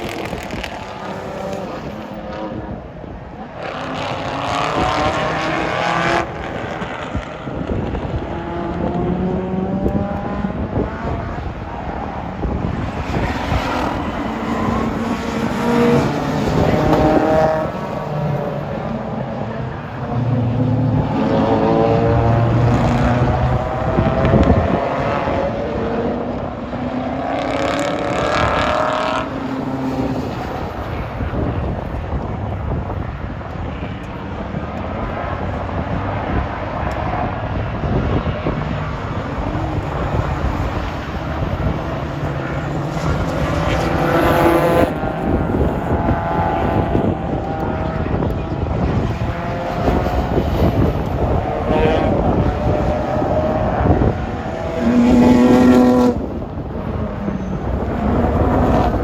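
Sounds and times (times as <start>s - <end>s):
race car engines passing: 0.0s - 59.0s
track noise: 0.0s - 59.0s.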